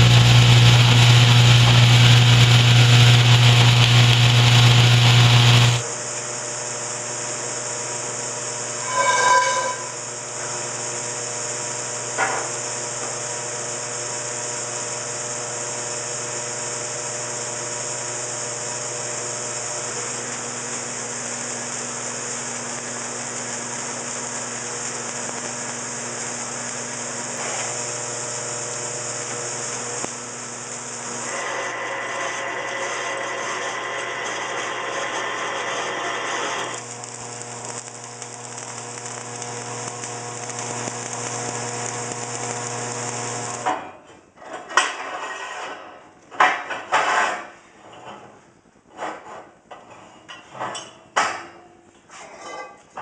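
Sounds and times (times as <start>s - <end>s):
welding arc hiss and crackle: 0.0s - 43.8s
constant electrical hum: 0.0s - 53.0s.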